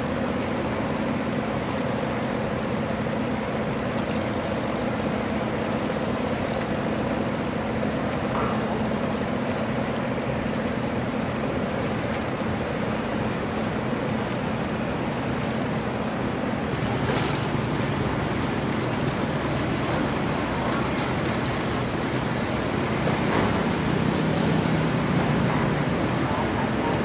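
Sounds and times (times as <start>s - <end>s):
harbour water: 0.0s - 27.0s
tugboat engine hum: 0.0s - 27.0s.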